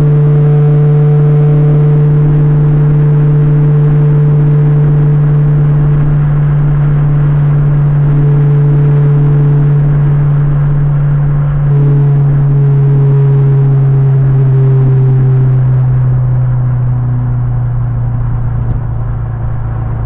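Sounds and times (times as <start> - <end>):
car engine and road noise drone: 0.0 - 20.0.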